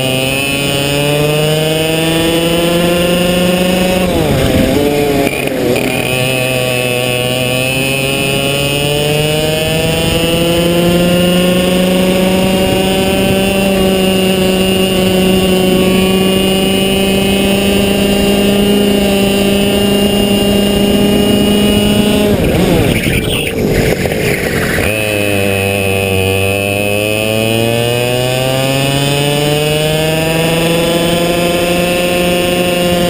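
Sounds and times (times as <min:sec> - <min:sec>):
kart engine at high revs: 0:00.0 - 0:33.0.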